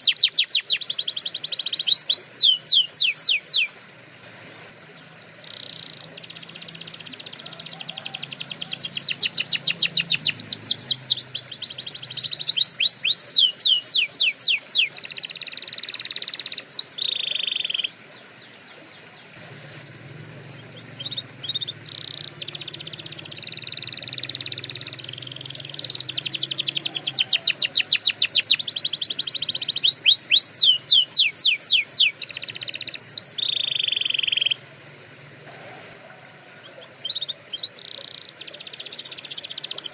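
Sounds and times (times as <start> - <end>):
canary singing: 0.0 - 3.8, 4.9 - 34.6, 36.5 - 39.9.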